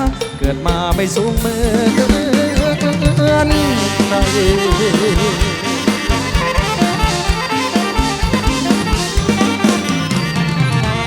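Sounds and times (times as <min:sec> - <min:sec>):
wavering lead melody: 0:01.6 - 0:11.0.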